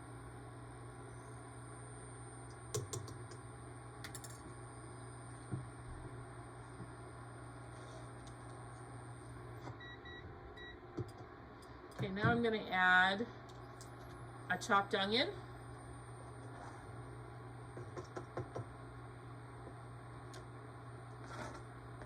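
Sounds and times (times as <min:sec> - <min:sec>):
cooktop burner humming and whining: 0:00.0 - 0:22.0.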